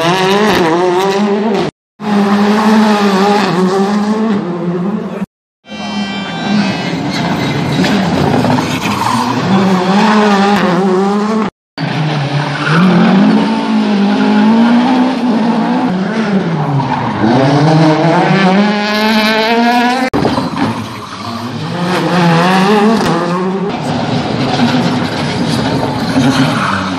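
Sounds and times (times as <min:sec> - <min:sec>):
rally car engines revving: 0:00.0 - 0:26.9.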